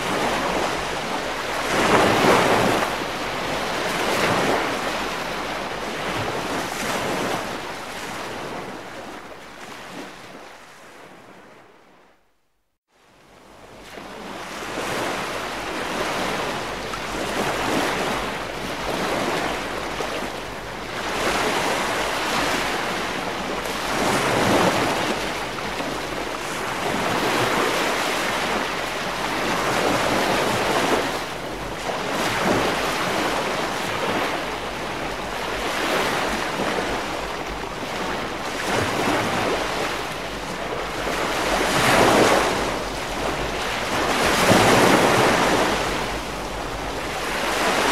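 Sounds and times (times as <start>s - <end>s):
waves washing onto beach: 0.0s - 11.8s, 13.0s - 47.9s.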